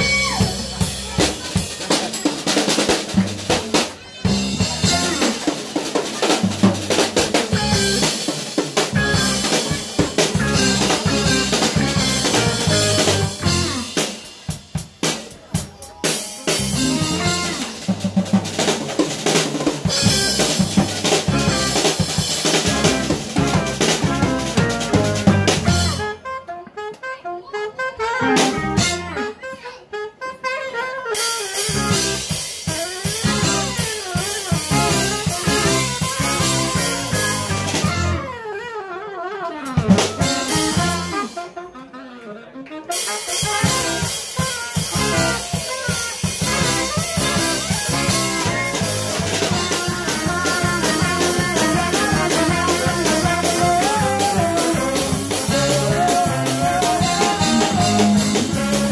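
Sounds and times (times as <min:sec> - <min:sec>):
drums and cymbals: 0:00.0 - 0:26.3, 0:28.2 - 0:29.6, 0:31.1 - 0:38.4, 0:39.6 - 0:41.7, 0:42.9 - 0:58.9
live band playing: 0:00.0 - 0:58.9.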